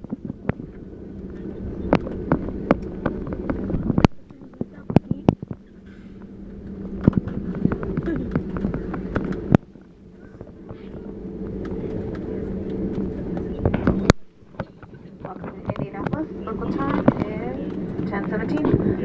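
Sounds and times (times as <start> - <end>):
engine and cabin hum: 0.0 - 19.0.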